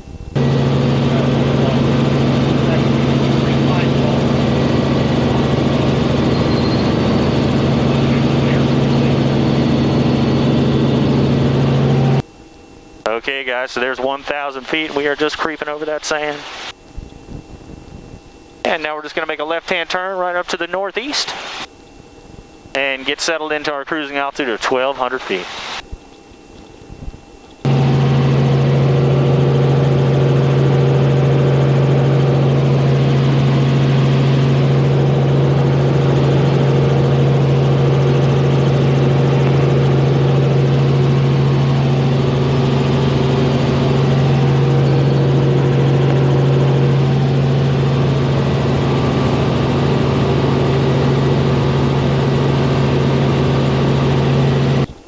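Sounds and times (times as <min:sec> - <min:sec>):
helicopter engine and rotor drone: 0:00.0 - 0:55.0.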